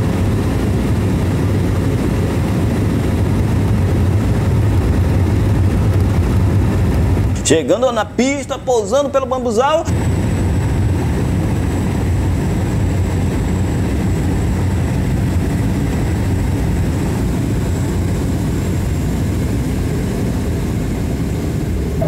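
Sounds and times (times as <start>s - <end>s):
turboprop engine drone: 0.0s - 22.0s.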